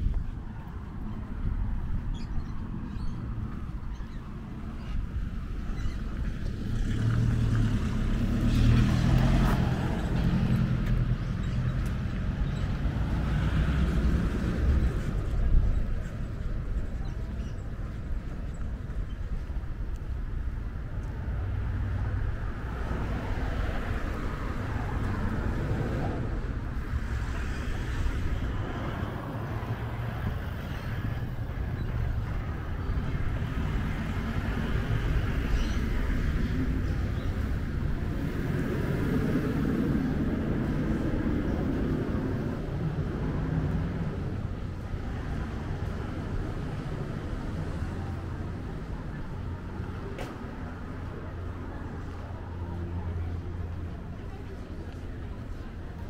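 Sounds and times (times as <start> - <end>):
steady low outdoor rumble: 0.0 - 56.0
vehicle engine humming: 0.0 - 56.0.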